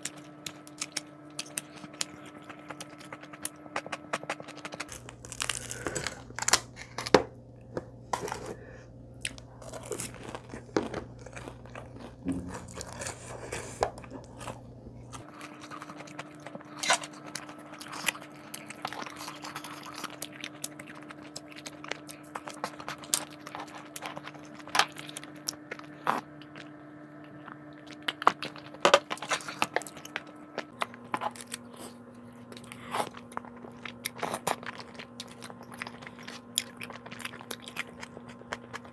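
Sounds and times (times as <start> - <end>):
person crunching and chewing food: 0.0 - 38.9.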